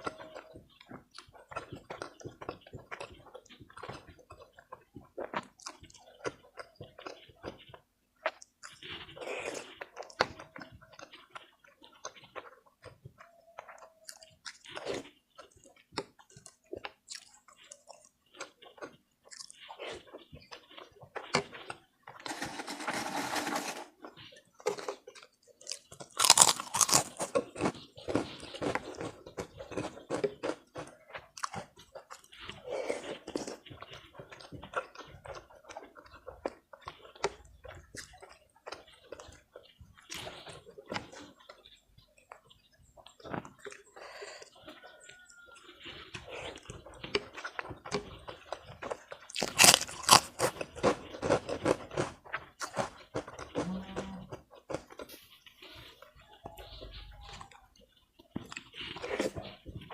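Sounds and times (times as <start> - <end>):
person chewing and biting food: 0.0 - 22.3, 24.6 - 41.6, 45.6 - 56.0, 58.2 - 59.9.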